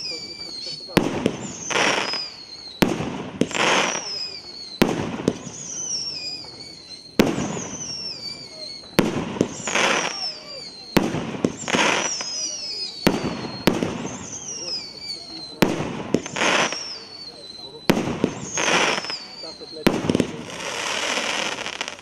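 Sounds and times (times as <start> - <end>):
firework bangs: 0.0 - 22.0
firework hiss: 0.0 - 22.0
high falling whistles: 0.0 - 22.0.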